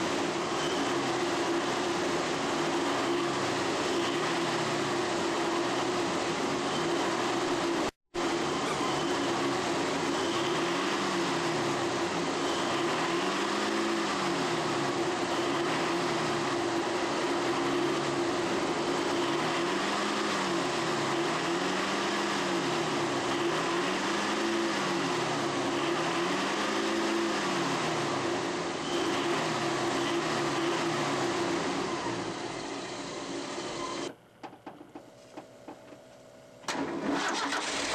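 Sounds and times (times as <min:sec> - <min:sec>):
low engine note rising and falling: 0:00.0 - 0:33.1.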